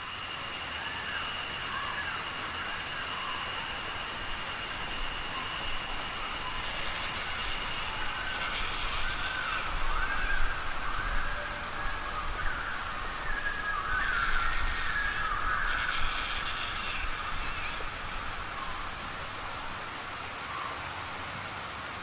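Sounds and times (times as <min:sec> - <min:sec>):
crickets trilling: 0:00.0 - 0:22.0
rain hissing on foliage: 0:00.0 - 0:22.0.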